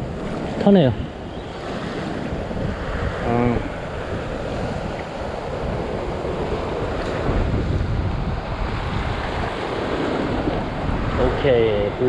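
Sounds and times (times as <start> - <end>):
ocean waves breaking over rocks: 0.0 - 12.0
wind buffeting microphone: 0.0 - 12.0.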